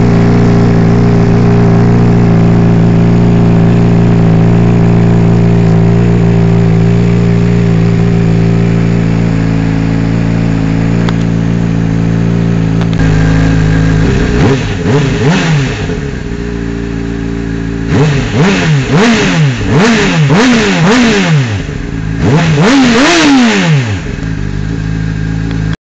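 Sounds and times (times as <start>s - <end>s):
motorcycle engine idling and revving: 0.0s - 25.8s.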